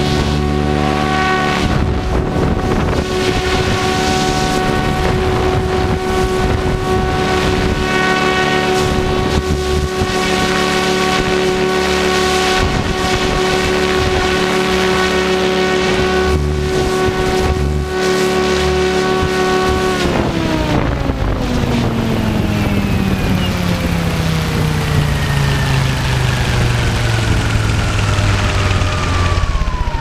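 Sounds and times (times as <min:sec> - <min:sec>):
rc helicopter drivetrain whine: 0:00.0 - 0:30.0
rotor wash: 0:00.0 - 0:30.0
wind on microphone: 0:00.0 - 0:30.0.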